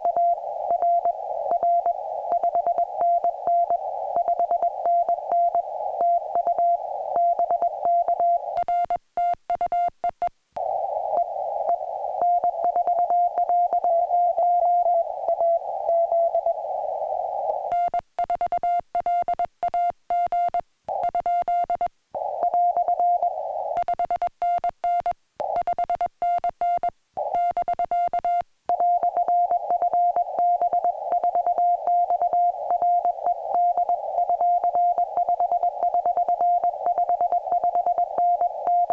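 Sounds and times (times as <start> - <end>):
receiver hiss: 0.0 - 38.9
morse code beeps: 0.2 - 10.3, 17.7 - 38.9.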